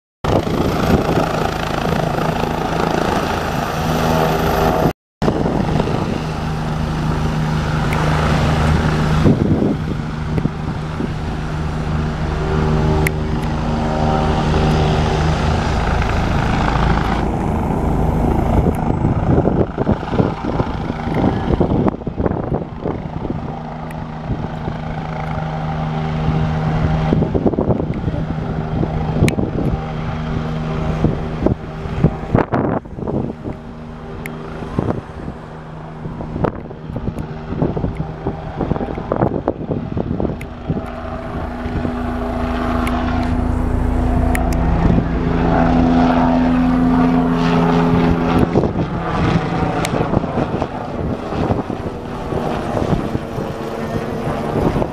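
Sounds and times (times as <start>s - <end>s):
helicopter flying: 0.2s - 54.9s.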